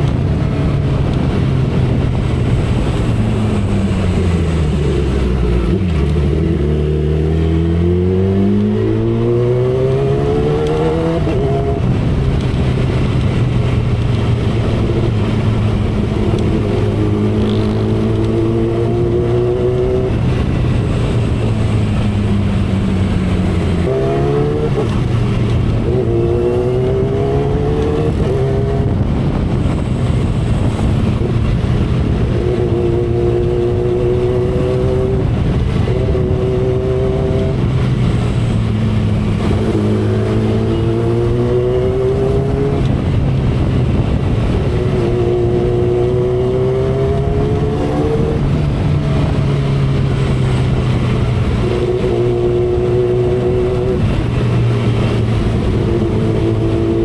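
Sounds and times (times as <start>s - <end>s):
motorcycle engine revving: 0.0s - 57.0s
wind noise: 0.0s - 57.0s.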